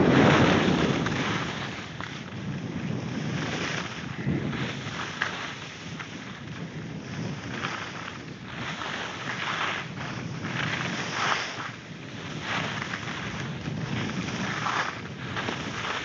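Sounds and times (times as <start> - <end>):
skis swishing over snow: 0.0 - 16.0
wind on microphone: 0.0 - 16.0.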